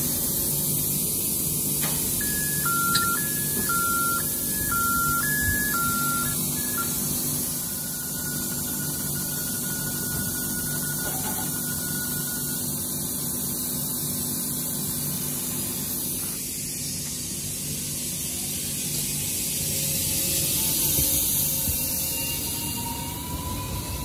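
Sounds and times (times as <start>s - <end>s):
electric train hum with hiss: 0.0s - 24.0s
thin electric whine: 1.3s - 16.4s, 18.3s - 24.0s.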